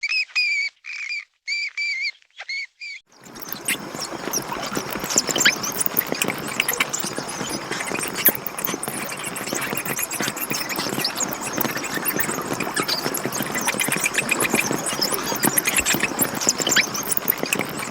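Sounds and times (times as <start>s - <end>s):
bats squeaking and chattering: 3.2s - 17.9s.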